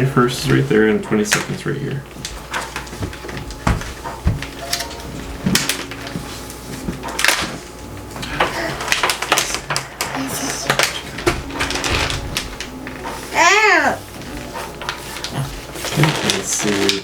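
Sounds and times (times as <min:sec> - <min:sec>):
cardboard clicks and crackles: 0:02.2 - 0:13.4, 0:14.1 - 0:17.0.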